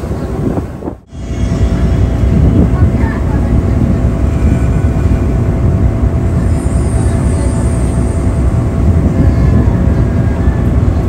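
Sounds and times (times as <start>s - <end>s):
ferry diesel engine drone: 0.0s - 11.0s
wind noise on microphone: 0.0s - 11.0s.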